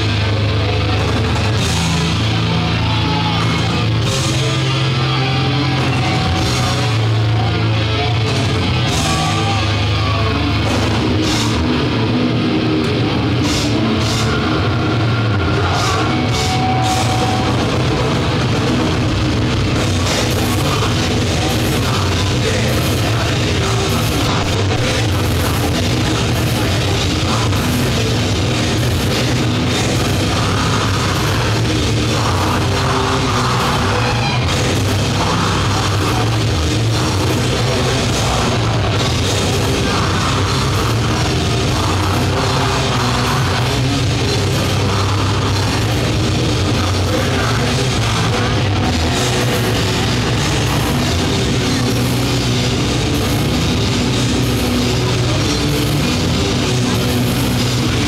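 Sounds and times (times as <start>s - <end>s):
metal band playing live: 0.0s - 58.0s.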